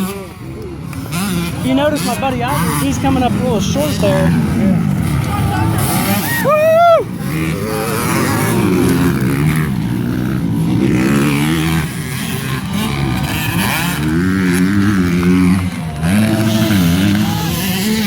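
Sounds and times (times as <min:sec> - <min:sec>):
dirt bike engines racing: 0:00.0 - 0:18.0.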